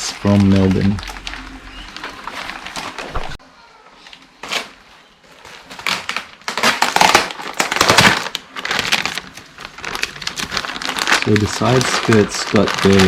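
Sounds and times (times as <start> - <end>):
packaging crinkling and rustling: 0.0 - 3.4, 4.0 - 13.0.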